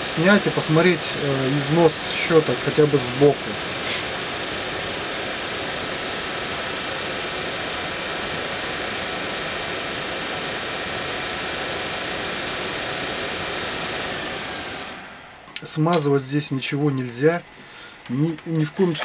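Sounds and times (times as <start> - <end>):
blower motor fan spinning: 0.0 - 19.0.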